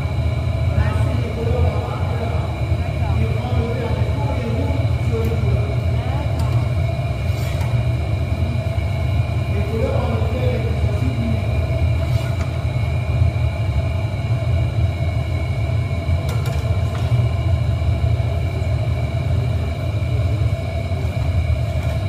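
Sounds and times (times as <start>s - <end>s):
constant hums: 0.0s - 22.0s
furnace and blowers roaring: 0.0s - 22.0s.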